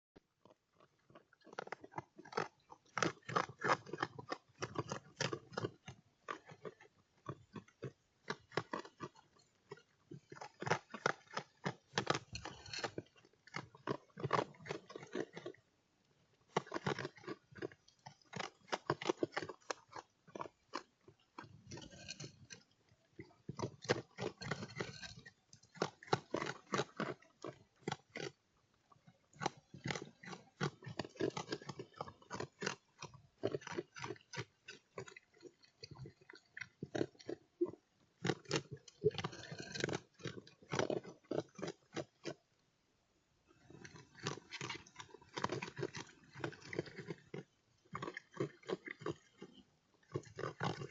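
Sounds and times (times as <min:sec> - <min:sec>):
animal crunching food: 0:00.2 - 0:42.5, 0:43.5 - 0:50.9.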